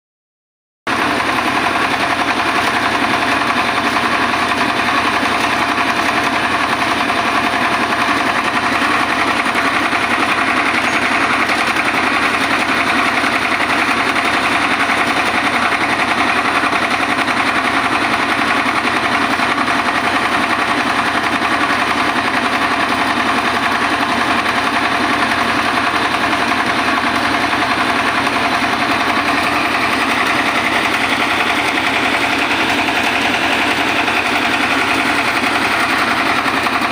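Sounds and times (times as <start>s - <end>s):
rice huller mechanical clatter: 0.9s - 36.9s.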